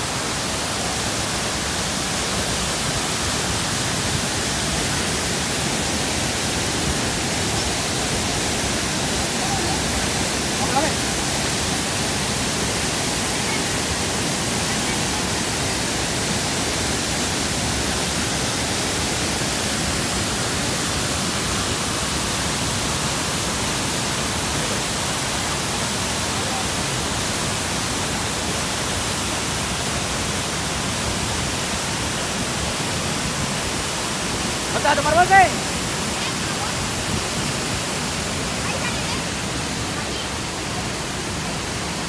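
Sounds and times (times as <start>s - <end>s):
waterfall rushing over rocks: 0.0s - 42.0s.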